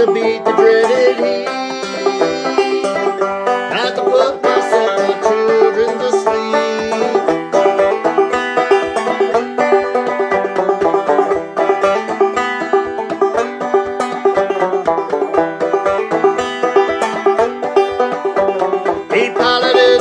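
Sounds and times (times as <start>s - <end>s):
banjo plucking: 0.0s - 20.0s.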